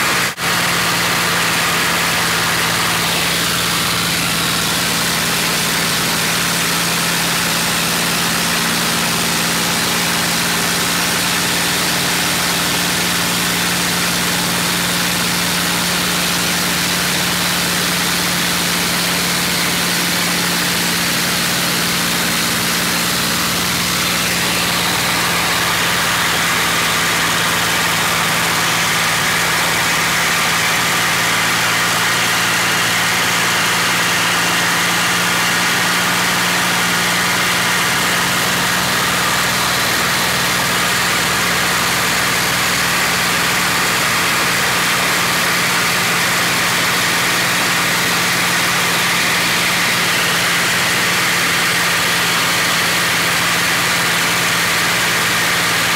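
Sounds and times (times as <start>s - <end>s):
aircraft engine running: 0.0s - 55.9s.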